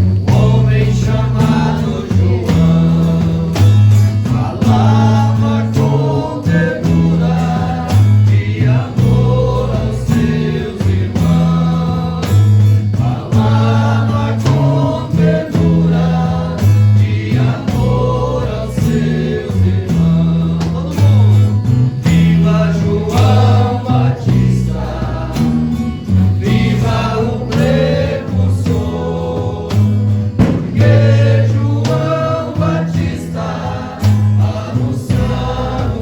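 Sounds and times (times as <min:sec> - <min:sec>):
group singing a hymn: 0:00.0 - 0:36.0
held low bass notes: 0:00.0 - 0:36.0
instrumental backing: 0:00.0 - 0:36.0.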